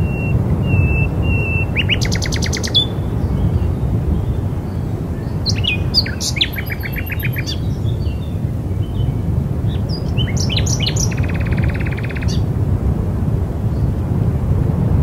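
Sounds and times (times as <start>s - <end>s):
songbirds chirping and trilling: 0.0s - 12.5s
wind rumble: 0.0s - 15.0s.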